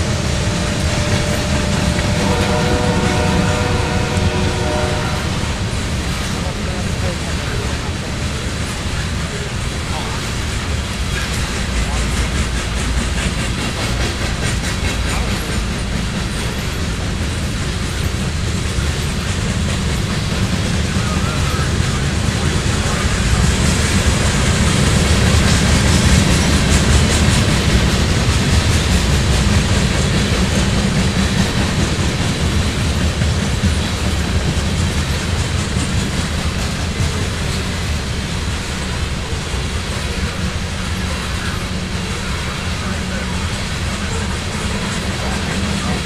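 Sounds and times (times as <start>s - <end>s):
clickety-clack over rail joints: 0.0s - 46.0s
train wheels rumbling on rails: 0.0s - 46.0s.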